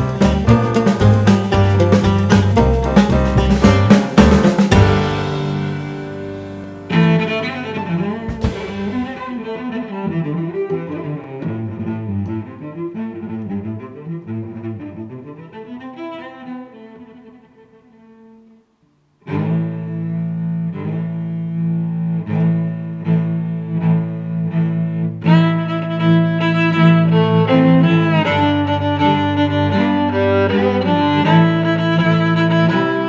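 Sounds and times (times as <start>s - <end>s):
string-like melodic music: 0.0s - 16.2s, 22.1s - 33.0s.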